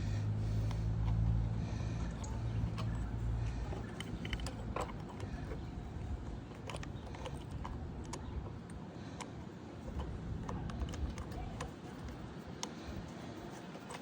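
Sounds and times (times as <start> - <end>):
low background hum: 0.0 - 14.0
clicks of small parts handled: 2.0 - 14.0.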